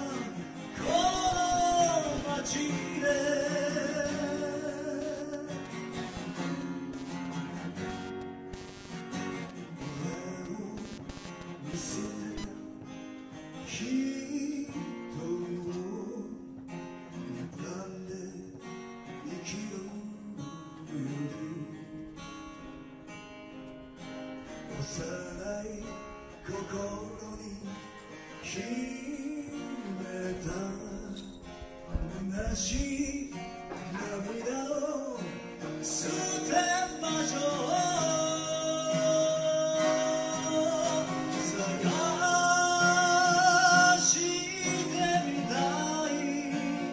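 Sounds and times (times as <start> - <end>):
man singing: 0.0 - 6.7, 9.5 - 13.0, 13.6 - 22.3, 24.6 - 46.9
acoustic guitar strumming: 0.0 - 46.9.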